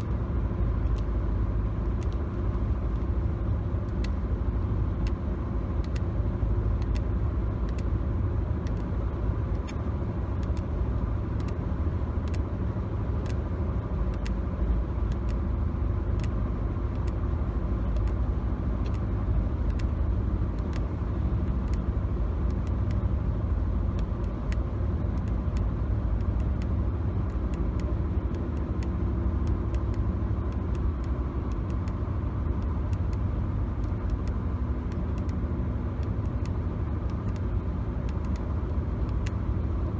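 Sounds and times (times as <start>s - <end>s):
car road rumble: 0.0s - 39.9s.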